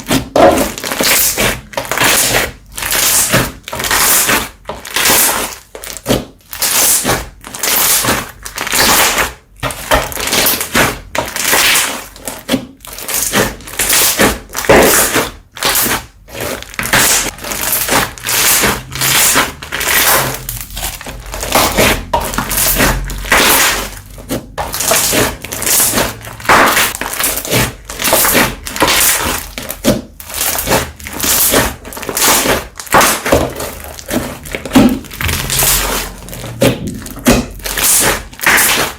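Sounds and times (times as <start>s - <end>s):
slime squishing by hand: 0.0s - 38.9s.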